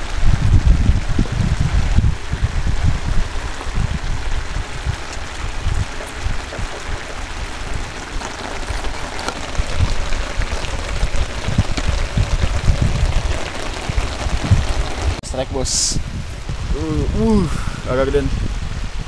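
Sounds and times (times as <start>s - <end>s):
steady rain falling: 0.0s - 19.0s
wind buffeting microphone: 0.0s - 19.0s.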